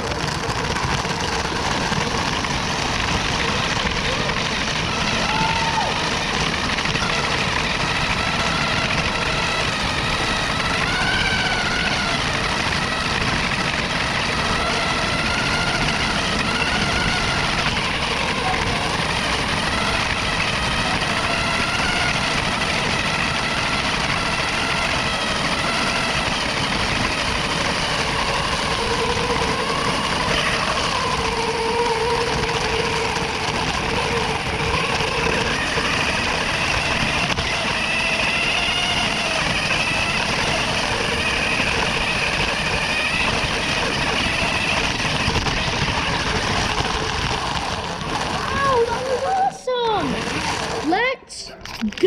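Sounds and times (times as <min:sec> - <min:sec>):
plastic wheels rolling on pavement: 0:00.0 - 0:52.0.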